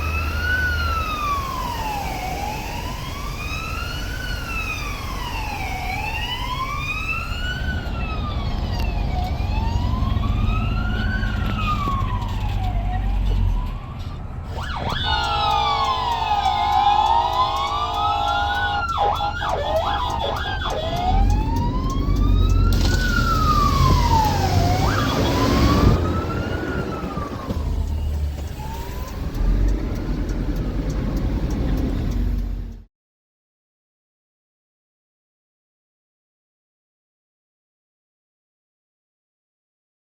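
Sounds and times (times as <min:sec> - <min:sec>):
police siren wailing: 0:00.0 - 0:32.5
traffic noise: 0:00.0 - 0:32.9.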